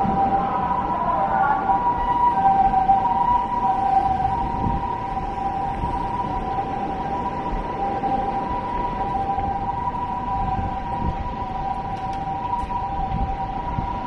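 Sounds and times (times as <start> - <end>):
low rumble of city noise: 0.0 - 14.0
two-tone ambulance siren: 0.0 - 14.0.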